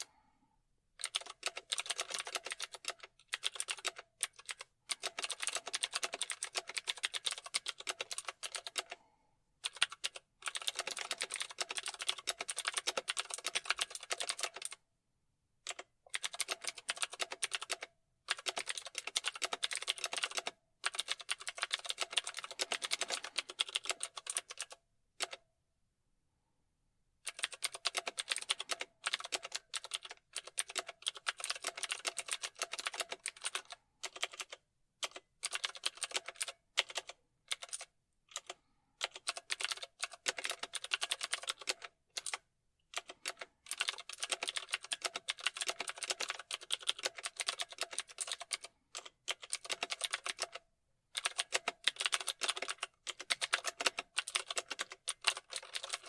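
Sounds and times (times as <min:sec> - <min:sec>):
fast keyboard typing: 0:01.0 - 0:09.0, 0:09.6 - 0:14.8, 0:15.7 - 0:25.4, 0:27.3 - 0:56.0.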